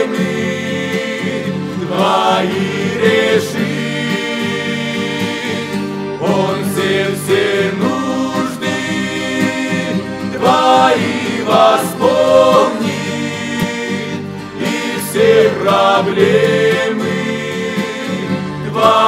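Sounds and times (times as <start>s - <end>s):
accordion chords: 0.0s - 19.0s
male choir singing in harmony: 0.0s - 19.0s.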